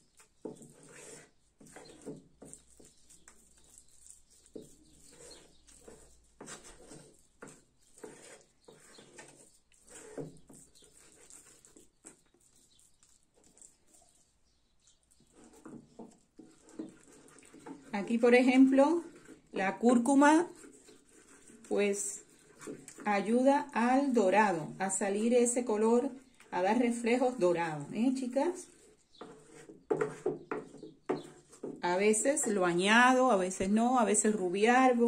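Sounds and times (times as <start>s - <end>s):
wooden spoon stirring thick paste: 0.0s - 35.0s.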